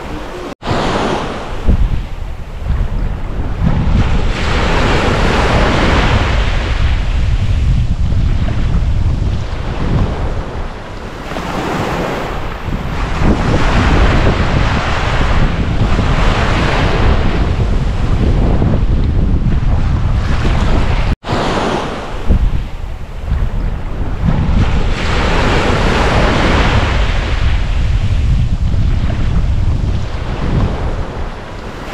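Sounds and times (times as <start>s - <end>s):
sea waves breaking on beach: 0.0s - 31.9s
wind rumble on microphone: 0.0s - 31.9s.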